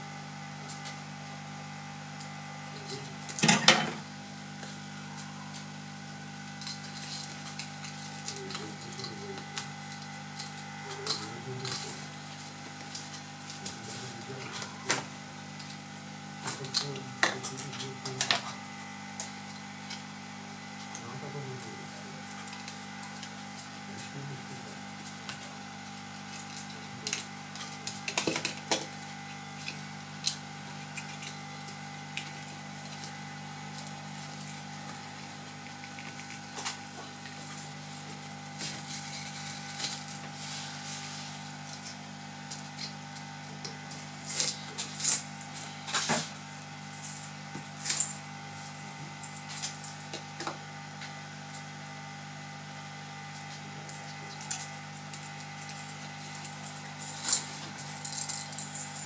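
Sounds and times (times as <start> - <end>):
steady electrical hum: 0.0 - 59.0.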